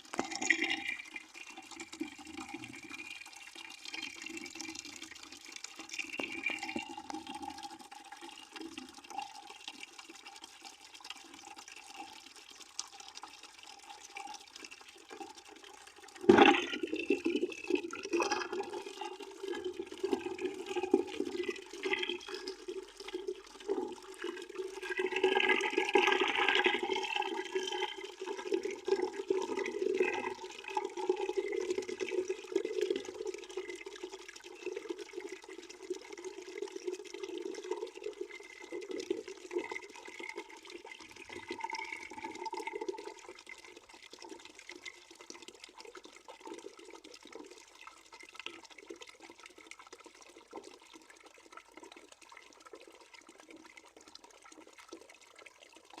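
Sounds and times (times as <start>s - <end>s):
water splashing into a bucket: 0.0s - 56.0s.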